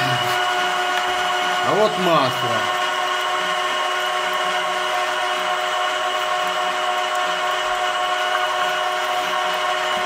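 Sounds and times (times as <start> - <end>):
oil press mechanical hum: 0.0 - 10.0.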